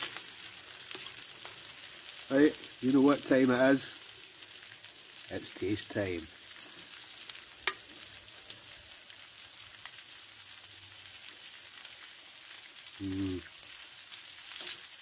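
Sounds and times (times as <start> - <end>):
rice sizzling in a frying pan: 0.0 - 15.0.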